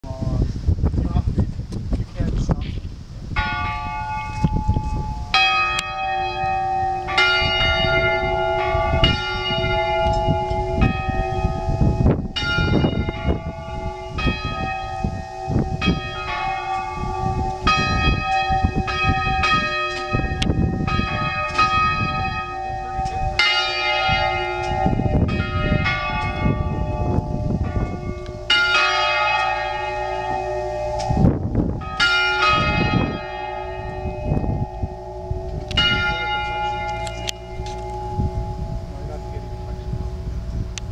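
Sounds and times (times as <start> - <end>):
church bells ringing: 3.4 - 40.9.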